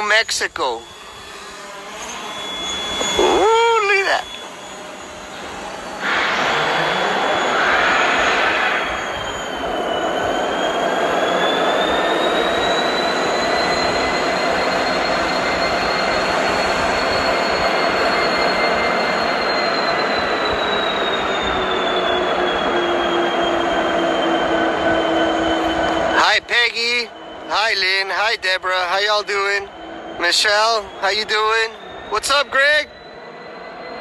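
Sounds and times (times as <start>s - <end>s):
freight train rolling: 0.0s - 34.0s
wheel squeals: 0.2s - 34.0s.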